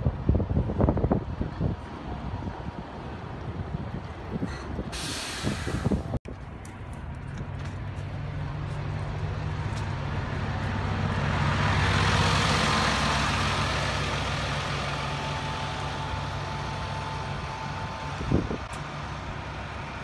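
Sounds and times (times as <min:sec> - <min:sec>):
bus driving past: 0:00.0 - 0:20.0.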